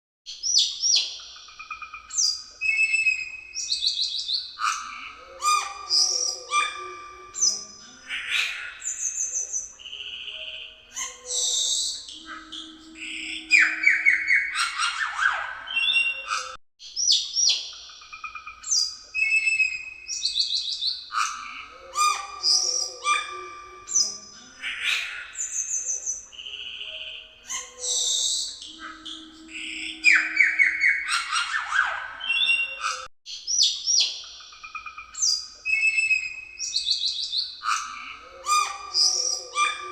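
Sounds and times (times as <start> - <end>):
bird singing whistles and trills: 0.3 - 39.9.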